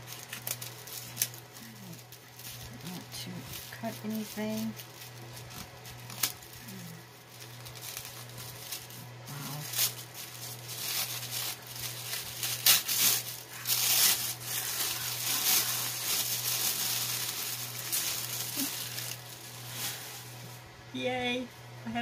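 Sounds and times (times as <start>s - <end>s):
tissue paper rustling: 0.0s - 20.6s.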